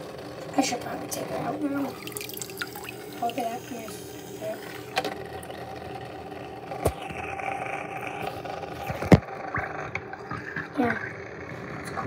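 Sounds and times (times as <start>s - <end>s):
toy train motor whirring: 0.0s - 11.9s.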